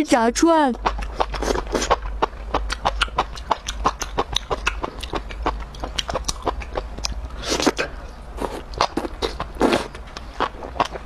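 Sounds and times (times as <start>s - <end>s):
wet chewing and lip smacking: 0.8s - 11.0s.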